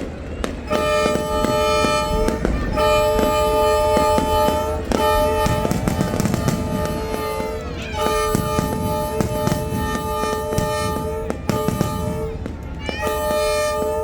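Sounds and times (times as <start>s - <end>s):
locomotive air horn blasts: 0.0s - 14.0s.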